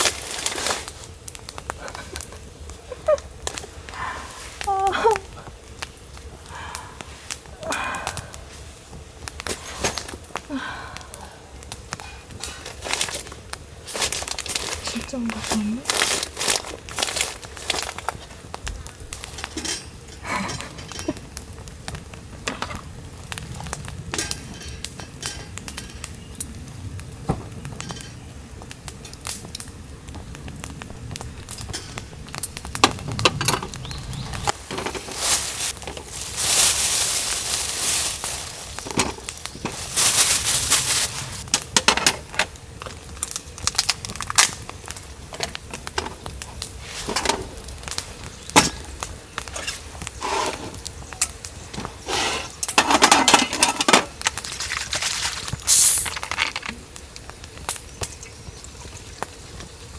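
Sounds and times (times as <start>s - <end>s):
camp cookware clinking: 7.3s - 59.9s.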